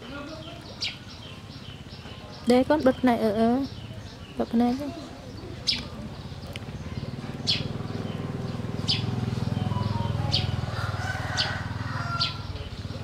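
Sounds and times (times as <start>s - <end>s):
bird chirping: 0.2s - 12.9s.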